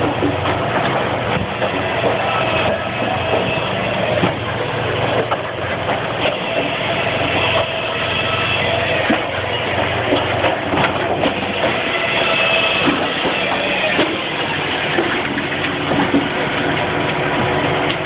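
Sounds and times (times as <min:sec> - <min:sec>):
firewood processor running: 0:00.0 - 0:18.0.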